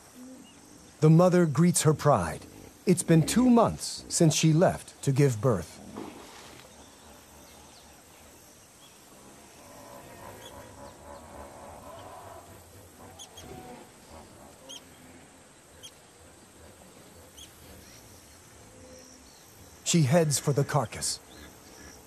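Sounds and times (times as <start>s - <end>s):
faint outdoor background noise: 0.0s - 22.0s.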